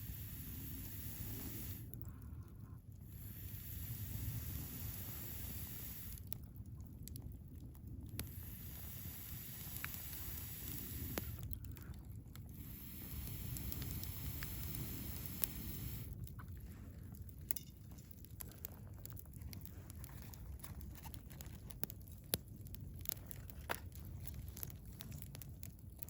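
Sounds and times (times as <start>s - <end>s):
fire crackles and pops: 0.0s - 26.0s
wood fire rumbling: 0.0s - 26.0s.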